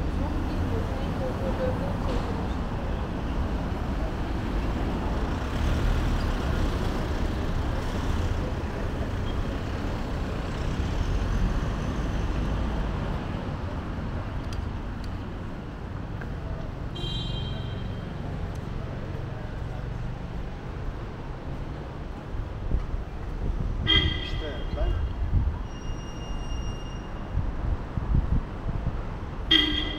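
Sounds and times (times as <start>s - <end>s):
road traffic rumble: 0.0s - 29.9s.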